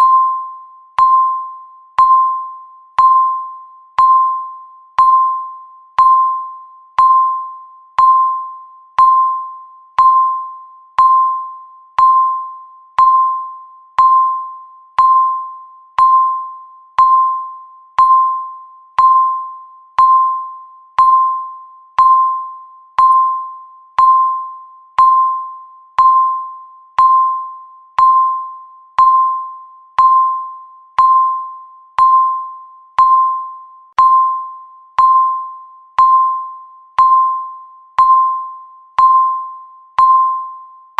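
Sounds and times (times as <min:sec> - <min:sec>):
electronic timer beeps: 0:00.0 - 0:40.9.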